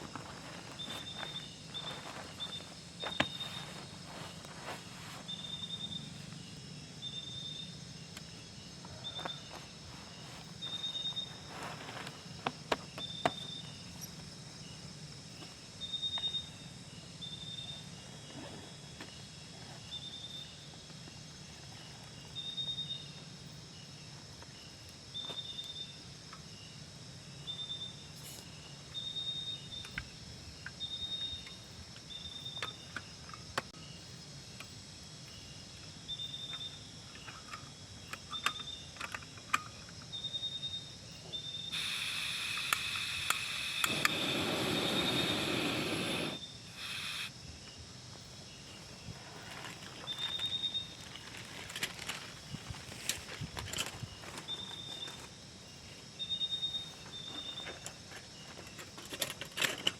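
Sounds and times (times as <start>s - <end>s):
cricket chirping: 0.0s - 59.9s.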